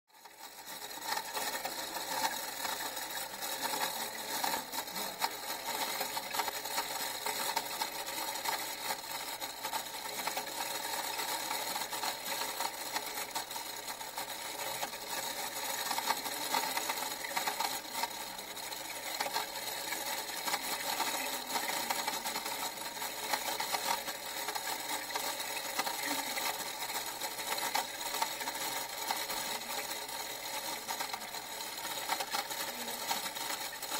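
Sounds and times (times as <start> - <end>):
belt and gear mechanism running: 0.1 - 33.9.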